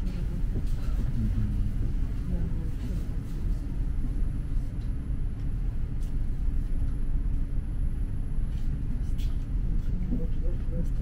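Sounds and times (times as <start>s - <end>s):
tram rumbling along: 0.0s - 11.0s.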